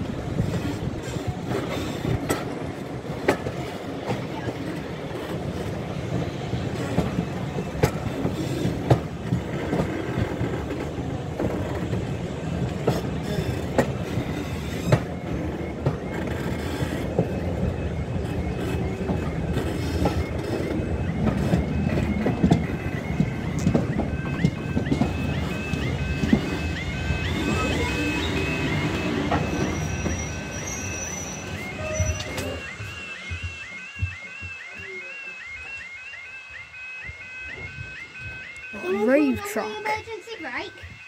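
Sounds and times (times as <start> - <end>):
wheels clicking over rail joints: 0.0 - 34.7
train rumble: 0.0 - 35.8.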